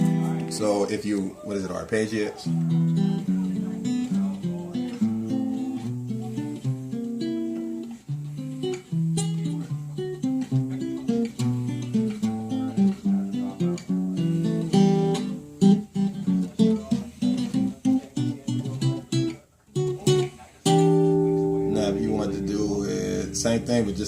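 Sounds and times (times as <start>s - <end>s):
guitar arpeggios: 0.0s - 1.6s, 2.2s - 24.0s.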